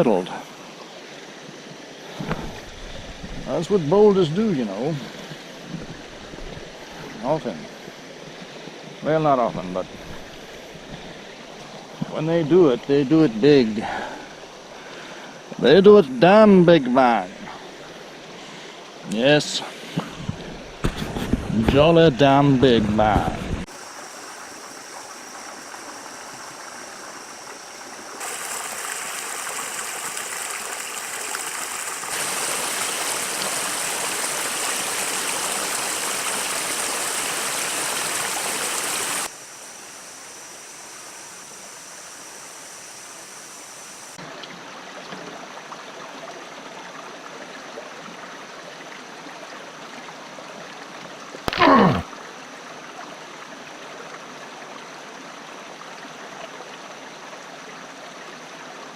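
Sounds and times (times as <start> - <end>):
creek water flowing: 0.0 - 58.9.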